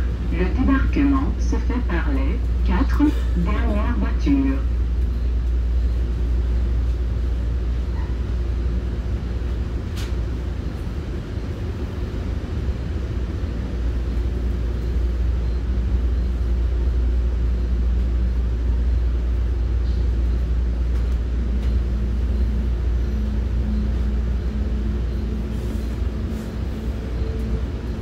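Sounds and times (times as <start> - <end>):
train running low rumble: 0.0 - 28.0.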